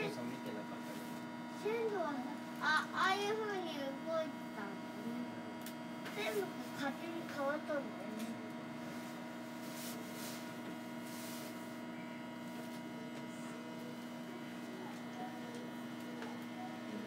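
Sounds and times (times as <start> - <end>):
monorail train electrical hum: 0.0 - 17.0.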